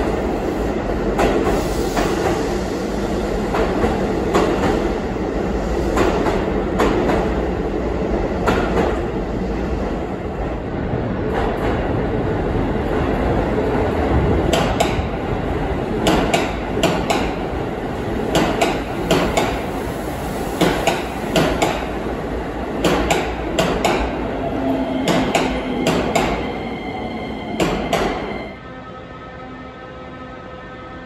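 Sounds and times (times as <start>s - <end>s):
train rumble: 0.0s - 28.6s.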